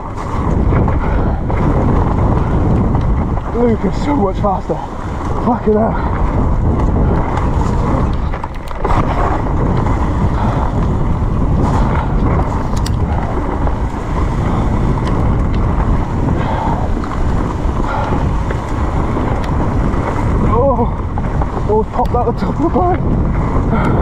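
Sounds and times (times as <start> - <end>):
bike clicks and rattles: 0.0 - 24.0
wind buffeting microphone: 0.0 - 24.0.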